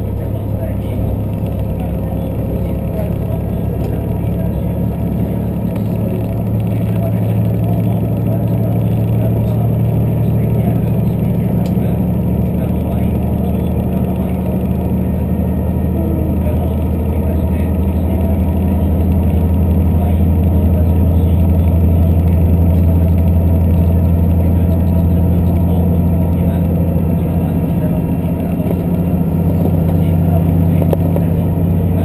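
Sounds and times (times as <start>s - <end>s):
train engine drone: 0.0s - 32.0s
wheels rumbling on rails: 0.0s - 32.0s.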